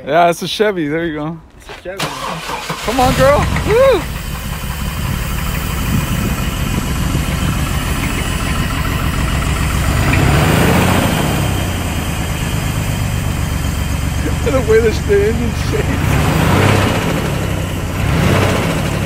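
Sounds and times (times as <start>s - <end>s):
rough idling engine revving: 2.0s - 19.0s.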